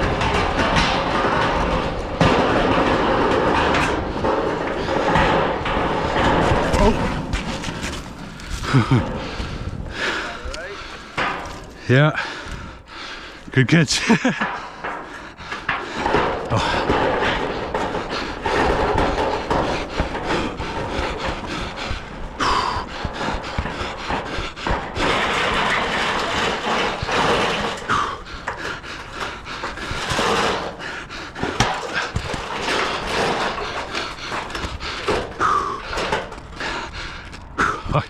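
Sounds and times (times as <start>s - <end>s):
metal roofing panels clattering: 0.0s - 37.6s.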